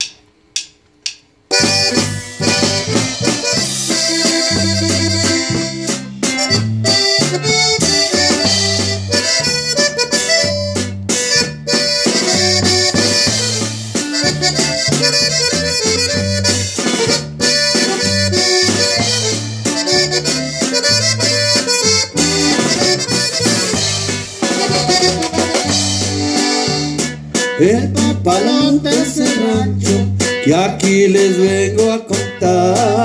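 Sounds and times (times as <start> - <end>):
accordion melody: 1.5 - 33.0
low bass notes: 1.5 - 33.0.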